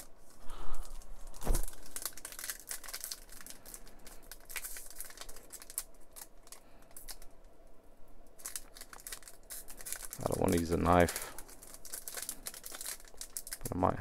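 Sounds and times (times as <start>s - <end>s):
plastic pack crinkling: 0.2s - 7.5s, 8.4s - 13.8s.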